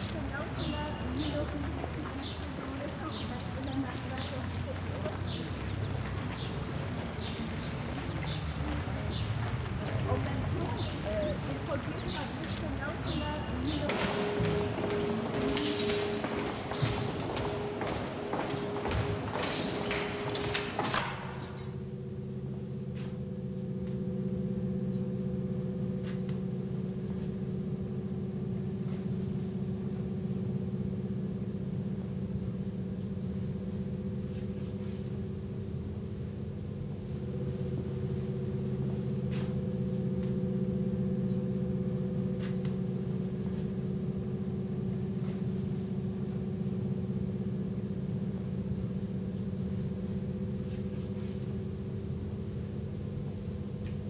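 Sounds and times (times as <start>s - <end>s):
low droning chord: 0.0s - 54.0s.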